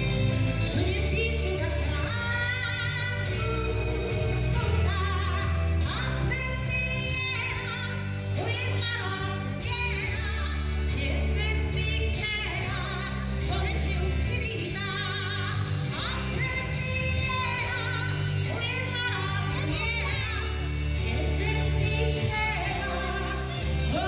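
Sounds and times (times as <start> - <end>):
bass line: 0.0 - 24.0
live pop band music: 0.0 - 24.0
woman singing with vibrato: 0.0 - 24.0.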